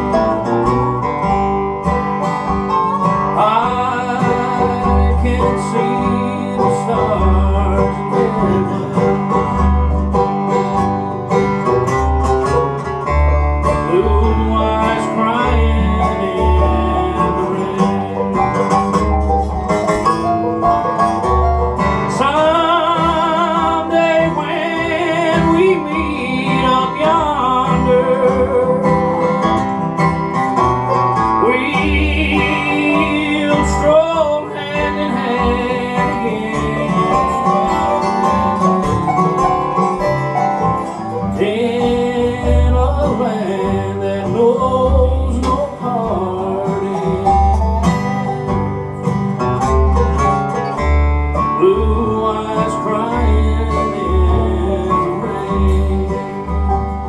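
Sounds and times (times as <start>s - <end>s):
acoustic guitar: 0.0s - 57.0s
banjo: 0.0s - 57.0s
bass line: 0.0s - 57.0s
lead instrument bending melody: 0.0s - 57.0s.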